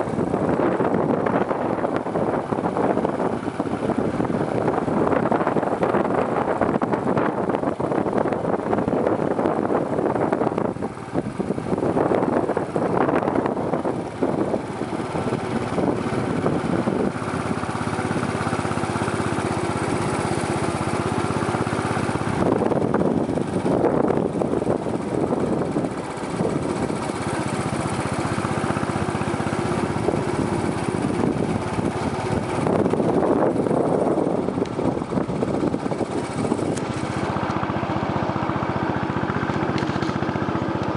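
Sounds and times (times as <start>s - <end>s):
motorcycle engine running: 0.0s - 40.9s
rushing wind noise: 0.0s - 40.9s.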